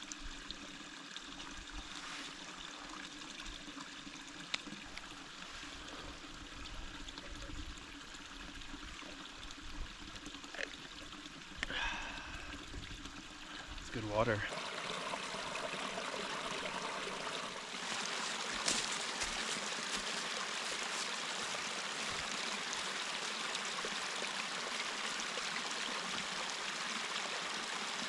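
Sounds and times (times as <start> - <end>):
small stream of running water: 0.0 - 28.0.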